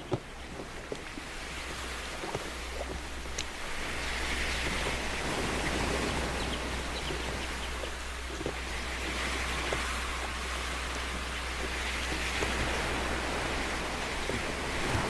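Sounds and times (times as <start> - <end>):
water drips and splashes: 0.0 - 15.0.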